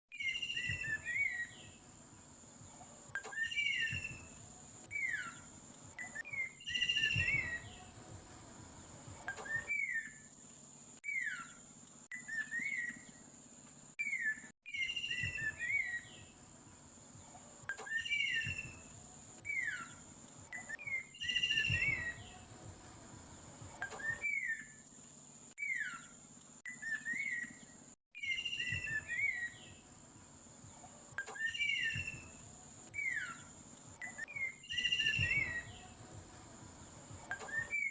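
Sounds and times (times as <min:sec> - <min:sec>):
birds chirping: 0:00.1 - 0:10.3, 0:14.0 - 0:24.8, 0:25.6 - 0:37.9.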